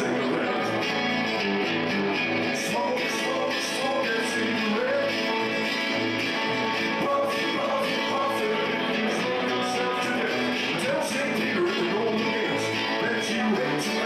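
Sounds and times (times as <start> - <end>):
man singing into a microphone: 0.0 - 0.9, 2.5 - 14.0
live band playing: 0.0 - 14.0.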